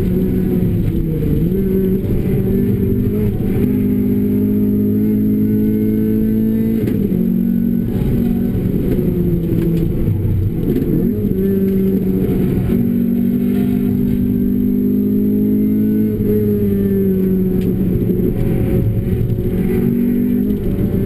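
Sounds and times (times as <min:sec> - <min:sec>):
car engine at high revs: 0:00.0 - 0:21.0
tyre and road rush: 0:00.0 - 0:21.0.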